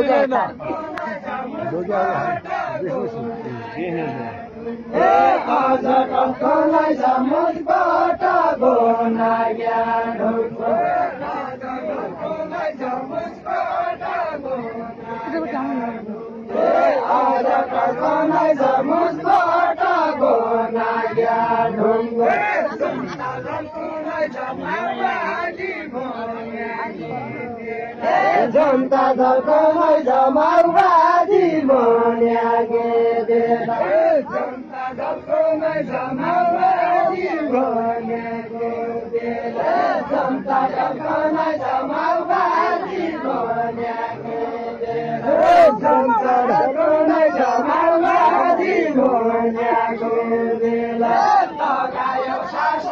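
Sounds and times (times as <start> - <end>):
crowd singing folk song: 0.0 - 52.9
men chanting together: 0.0 - 52.9.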